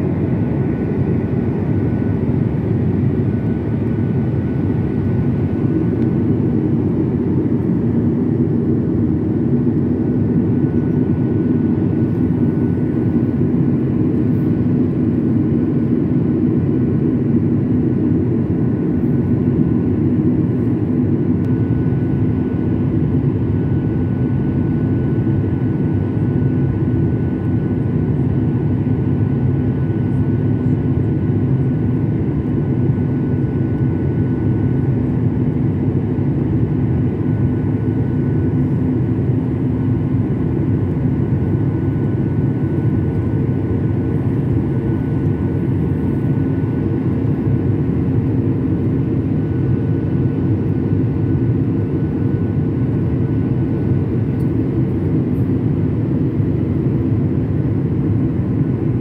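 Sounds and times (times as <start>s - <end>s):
jet engine roar in cabin: 0.0s - 59.0s.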